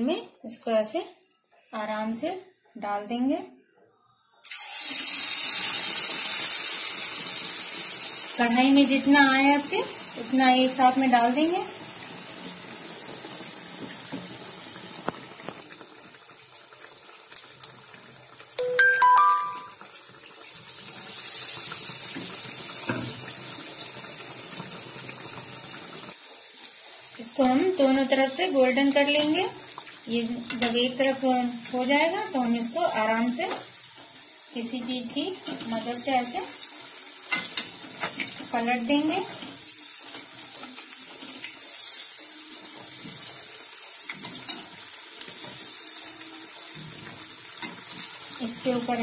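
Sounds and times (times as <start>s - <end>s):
food sizzling in hot oil: 4.4s - 18.8s, 19.4s - 49.0s.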